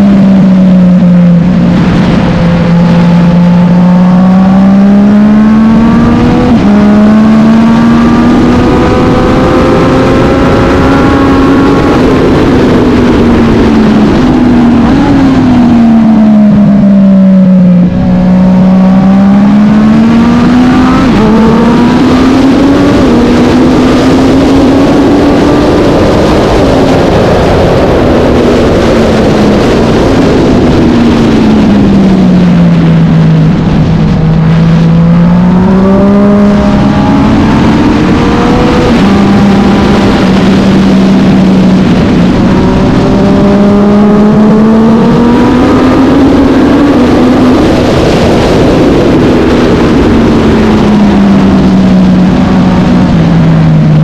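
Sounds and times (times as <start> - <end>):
racing motorcycle engine: 0.0 - 54.0.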